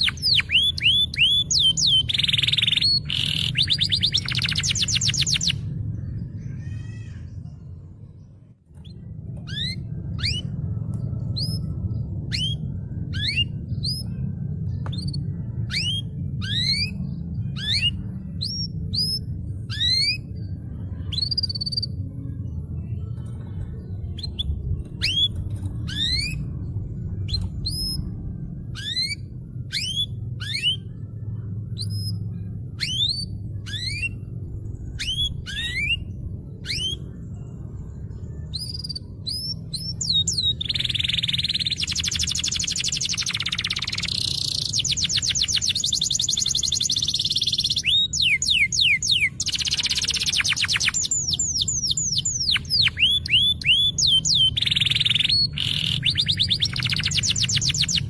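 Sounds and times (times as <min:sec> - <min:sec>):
canary chirping: 0:00.0 - 0:07.0, 0:08.8 - 0:10.7, 0:11.4 - 0:22.0, 0:24.0 - 0:26.6, 0:28.7 - 0:31.0, 0:31.6 - 0:37.2, 0:38.4 - 0:58.0
canary trilling: 0:00.0 - 0:07.8, 0:08.8 - 0:10.7, 0:11.3 - 0:22.0, 0:24.1 - 0:37.2, 0:38.5 - 0:58.0
steady low hum: 0:00.0 - 0:58.0.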